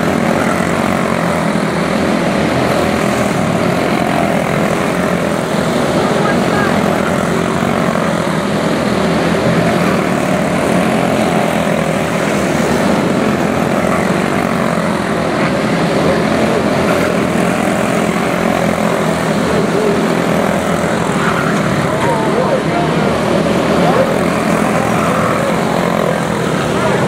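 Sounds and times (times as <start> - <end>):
small race car engines buzzing: 0.0 - 27.0.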